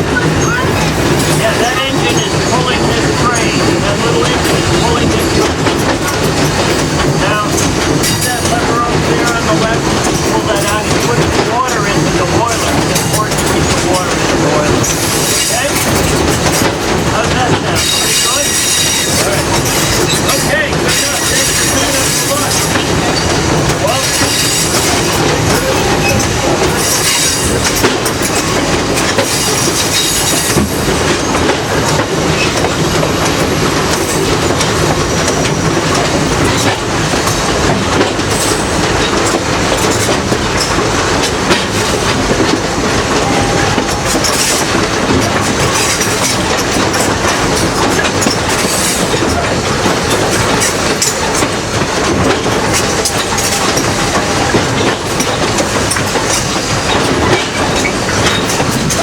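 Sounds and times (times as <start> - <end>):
train coach rolling on track: 0.0 - 59.0
wheels clicking over rail joints: 0.0 - 59.0.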